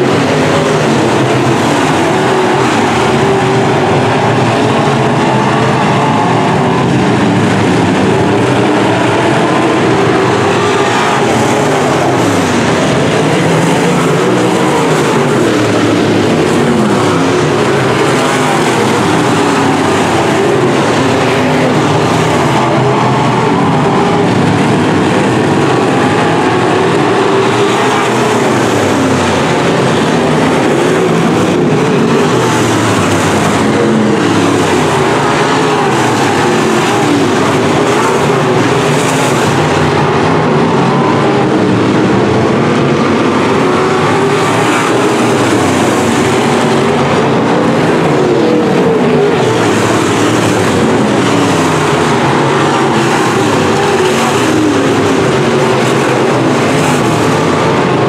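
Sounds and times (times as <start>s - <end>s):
race car engines roaring: 0.0s - 58.0s.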